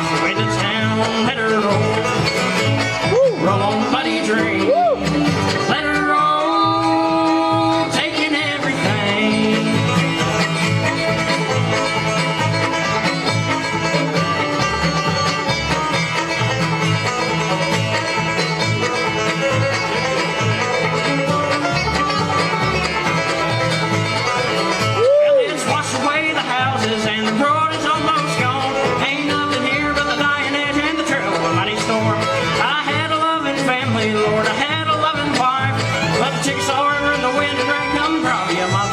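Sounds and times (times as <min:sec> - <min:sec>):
banjo picking: 0:00.0 - 0:38.9
bluegrass band playing: 0:00.0 - 0:38.9.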